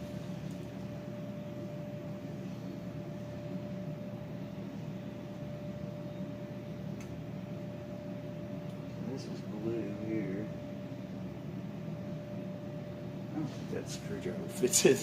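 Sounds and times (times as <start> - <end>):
electrical hum and hiss: 0.0 - 15.0
faint constant tone: 0.0 - 15.0.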